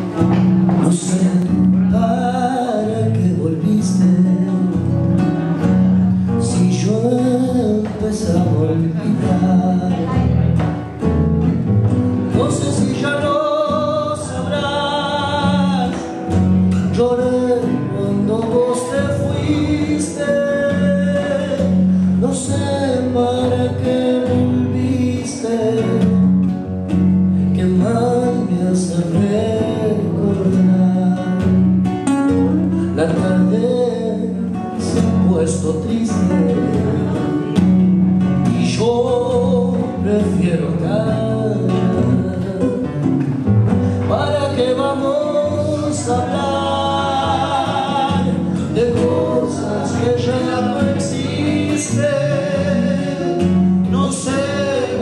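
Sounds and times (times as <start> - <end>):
man singing with vibrato: 0.0 - 10.6, 12.2 - 26.7, 27.3 - 55.0
acoustic guitars: 0.0 - 55.0.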